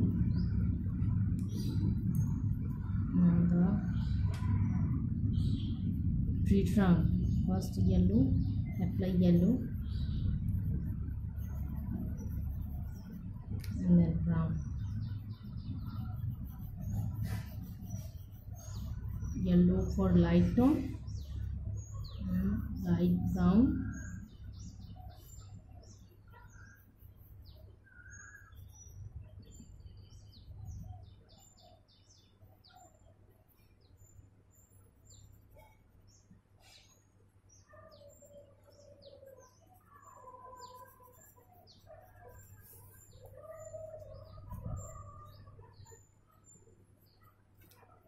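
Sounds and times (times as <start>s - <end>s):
faint low hum: 0.0s - 48.0s
small birds chirping: 0.0s - 48.0s.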